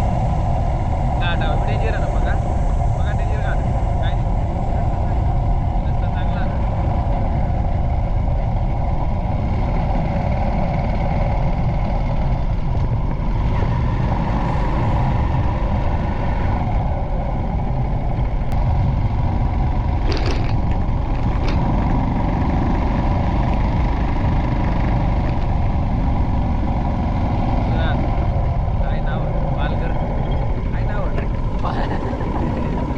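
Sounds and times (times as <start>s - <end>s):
motorcycle engine and road noise: 0.0s - 32.9s
wind rumble on microphone: 0.0s - 32.9s.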